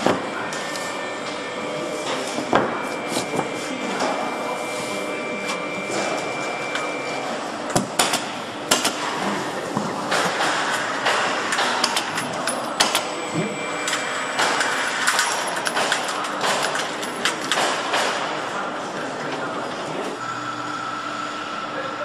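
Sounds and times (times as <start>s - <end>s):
steady factory noise: 0.0s - 22.0s.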